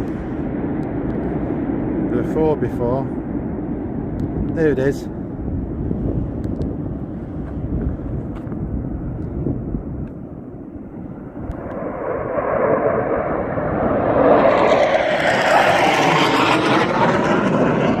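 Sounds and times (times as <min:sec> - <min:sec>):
jet approaching low: 0:00.0 - 0:18.0.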